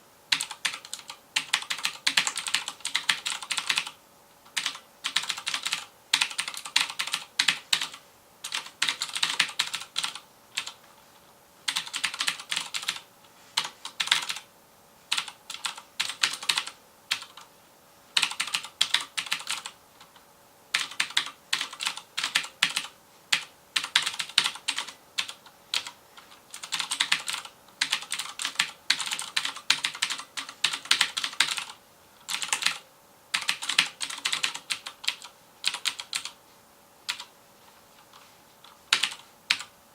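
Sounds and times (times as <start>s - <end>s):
clicky mechanical keyboard typing: 0.3s - 10.8s, 11.7s - 13.0s, 13.6s - 14.5s, 15.1s - 17.5s, 18.2s - 36.4s, 37.1s - 37.3s, 38.0s - 39.7s.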